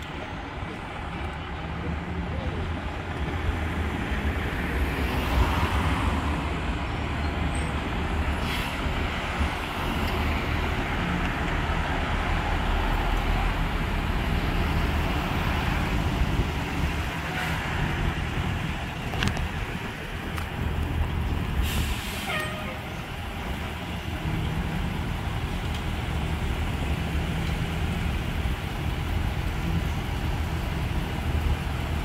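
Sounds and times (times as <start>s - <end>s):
vehicle engines idling: 0.0s - 32.0s.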